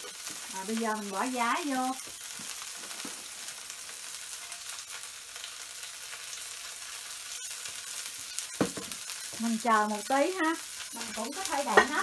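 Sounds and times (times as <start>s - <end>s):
batter sizzling in a wok: 0.0s - 12.0s.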